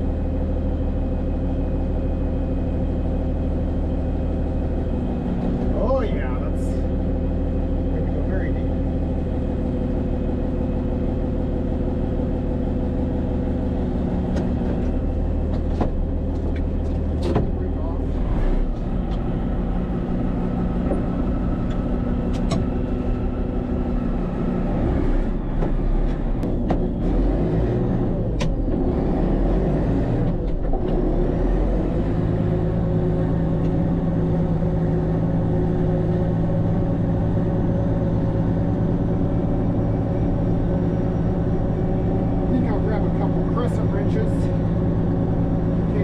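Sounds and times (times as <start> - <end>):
tractor diesel engine: 0.0 - 46.0.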